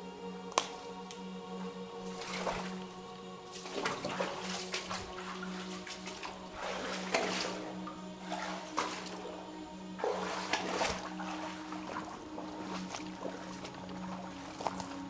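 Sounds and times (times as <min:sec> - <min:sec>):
creek water splashing: 0:00.0 - 0:15.0.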